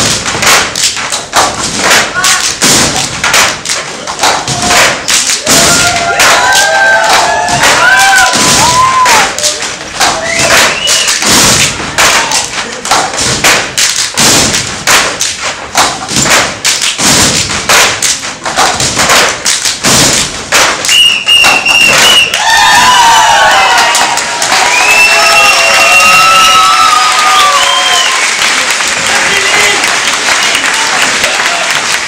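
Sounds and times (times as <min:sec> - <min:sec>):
drum ensemble fast rhythm: 0:00.0 - 0:27.3.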